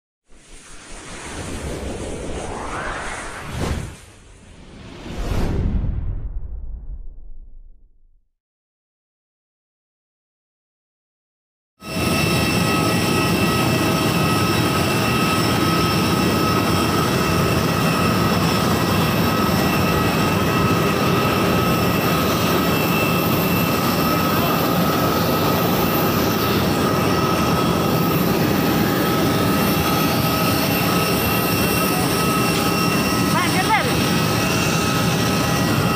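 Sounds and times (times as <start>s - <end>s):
jet engine rumble and whine: 0.3s - 7.4s, 11.8s - 35.9s.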